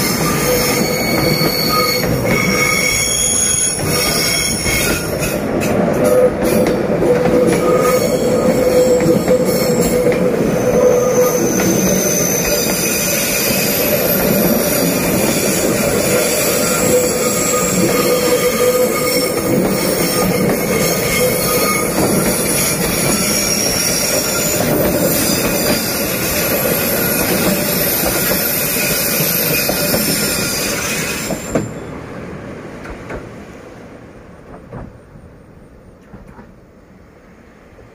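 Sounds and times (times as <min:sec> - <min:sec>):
train wheels squealing: 0:00.0 - 0:32.0
rumble of wheels on rails: 0:00.0 - 0:37.9.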